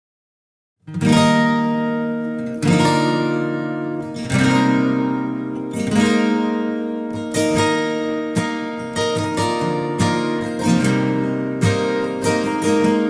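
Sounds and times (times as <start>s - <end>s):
acoustic guitar chords strummed: 0.9s - 13.0s.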